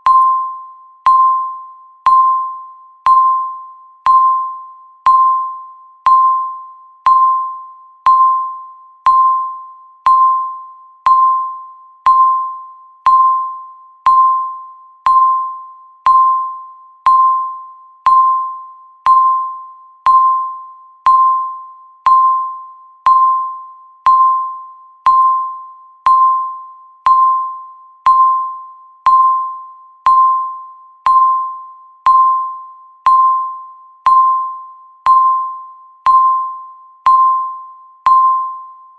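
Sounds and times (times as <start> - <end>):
electronic timer beeps: 0.0 - 38.9.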